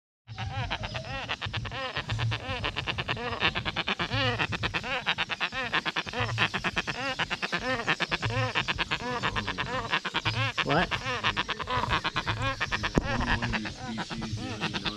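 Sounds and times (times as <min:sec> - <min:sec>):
bird croaking calls: 0:00.3 - 0:14.9.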